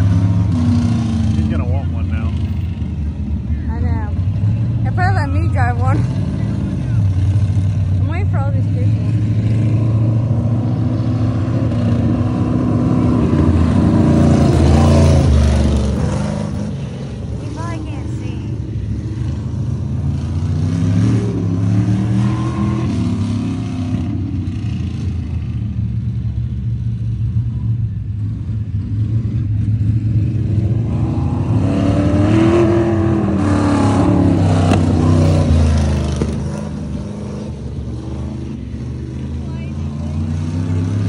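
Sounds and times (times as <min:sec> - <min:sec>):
race car engine revving: 0:00.0 - 0:26.6, 0:27.5 - 0:41.0.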